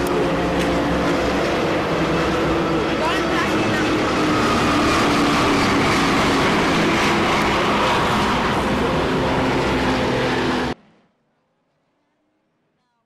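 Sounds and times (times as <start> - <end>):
racing car engines: 0.0 - 12.8.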